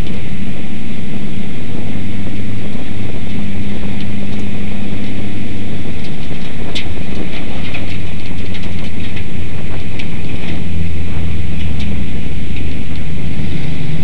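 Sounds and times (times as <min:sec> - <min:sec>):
race car engine at low revs: 0:00.0 - 0:14.0
wind noise on microphone: 0:00.0 - 0:14.0.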